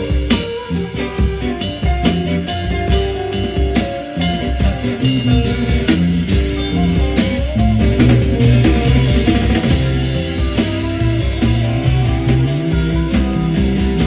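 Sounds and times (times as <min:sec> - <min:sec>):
band playing rock music: 0:00.0 - 0:14.0.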